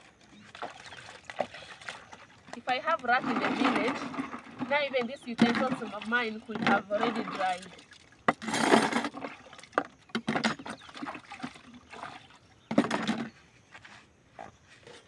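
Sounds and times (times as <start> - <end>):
water splashing in a basin: 0.0 - 13.4.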